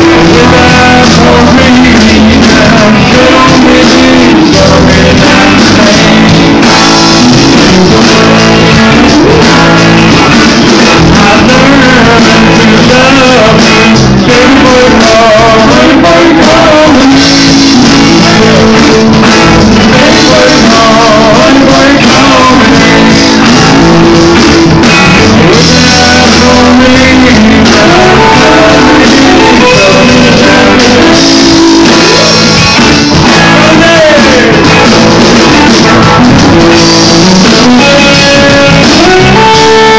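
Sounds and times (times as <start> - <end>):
drum kit: 0.0 - 39.9
electric guitars: 0.0 - 39.9
man singing: 0.0 - 39.9.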